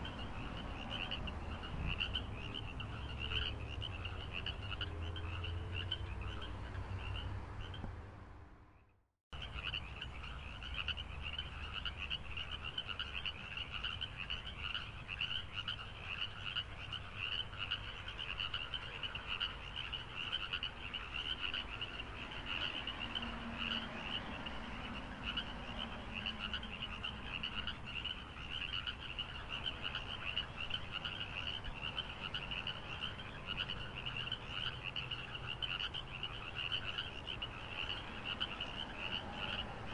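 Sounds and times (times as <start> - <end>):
frogs calling: 0.0 - 7.9, 8.7 - 39.9.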